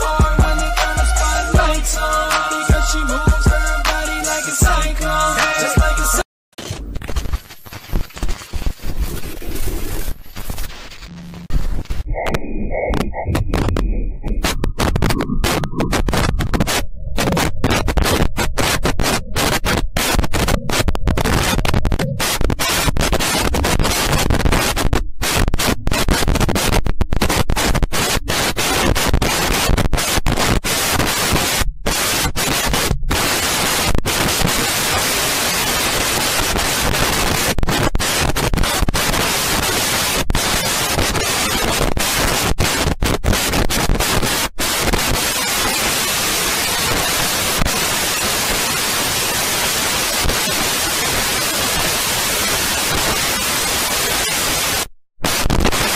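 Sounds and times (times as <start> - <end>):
harsh static noise: 0.0 - 5.9, 6.6 - 55.9.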